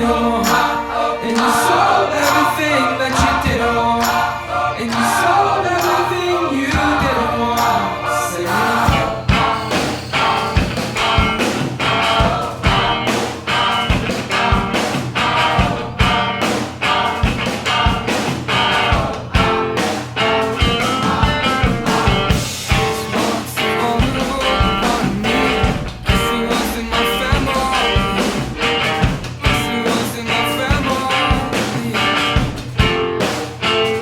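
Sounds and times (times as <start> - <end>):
instrumental rock music: 0.2 - 34.0.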